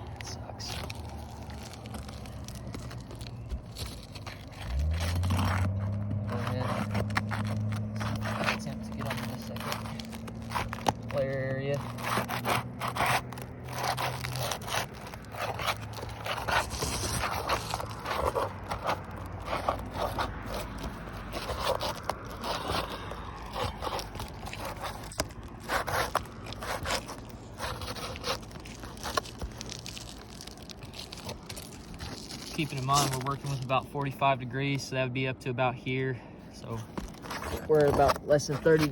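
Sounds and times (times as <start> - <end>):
shingle cracking and clicking: 0.0 - 33.8
pry tool scraping under shingles: 0.0 - 34.2, 36.6 - 38.9.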